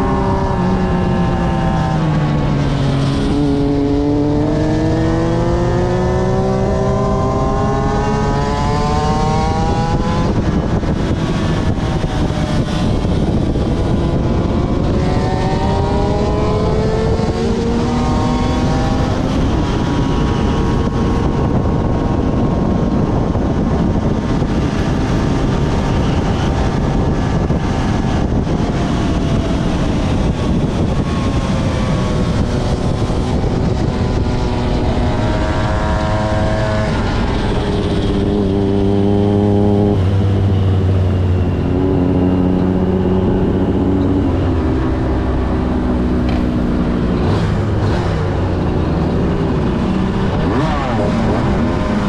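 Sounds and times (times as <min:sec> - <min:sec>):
motorcycle engine revving: 0:00.0 - 0:52.0
rushing wind noise: 0:00.0 - 0:52.0.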